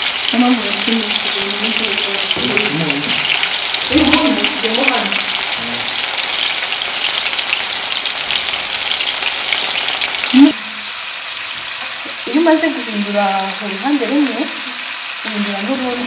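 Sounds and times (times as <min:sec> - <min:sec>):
meatballs sizzling in oil: 0:00.0 - 0:16.0.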